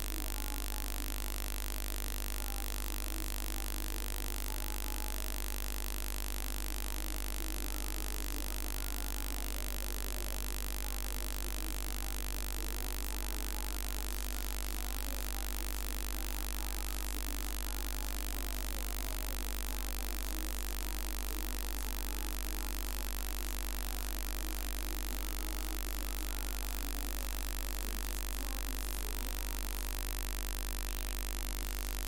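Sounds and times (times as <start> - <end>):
electrical hum and hiss: 0.0 - 32.0
low mains buzz: 0.0 - 32.0.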